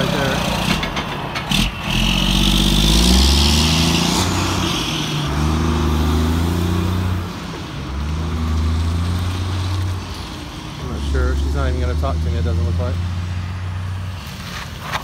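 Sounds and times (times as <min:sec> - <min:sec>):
truck diesel engine passing: 0:00.0 - 0:15.0.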